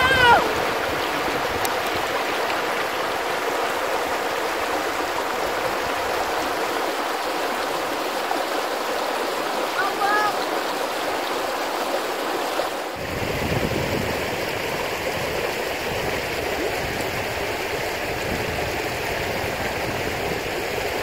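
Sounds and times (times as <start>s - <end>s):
river water rushing over stones: 0.0s - 21.0s.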